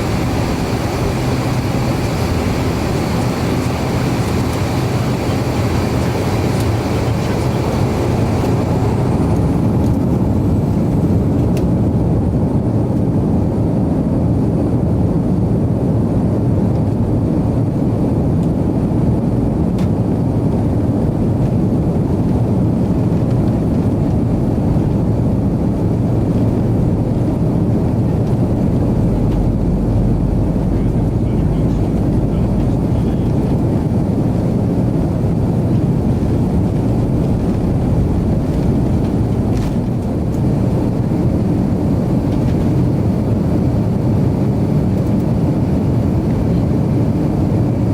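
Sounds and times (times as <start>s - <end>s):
jet engines running loud: 0.0s - 47.9s.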